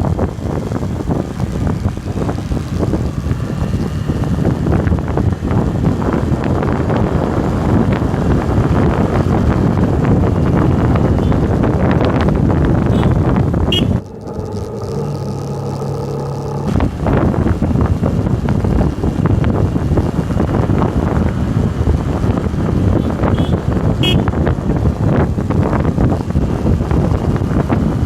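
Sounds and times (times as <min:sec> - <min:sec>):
vehicle engine hum: 0:00.0 - 0:28.0
wind buffeting on microphone: 0:00.0 - 0:28.0.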